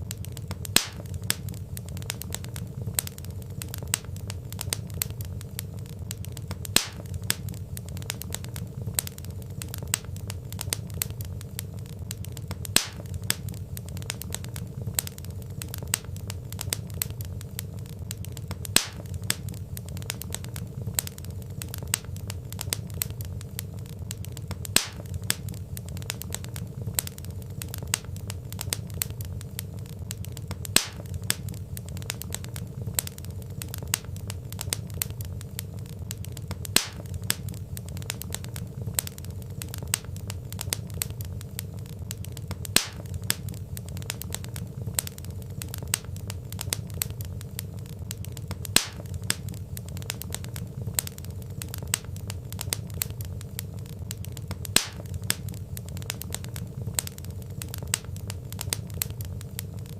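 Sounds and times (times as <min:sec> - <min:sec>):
loud fire pops: 0:00.0 - 0:59.9
low fire rumble: 0:00.0 - 0:59.9
wood fire crackling: 0:00.0 - 0:59.9.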